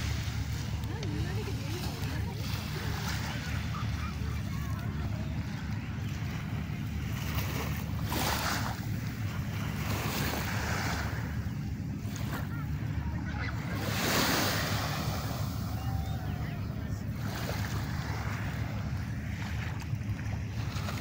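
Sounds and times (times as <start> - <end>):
small waves lapping on sand: 0.0 - 21.0.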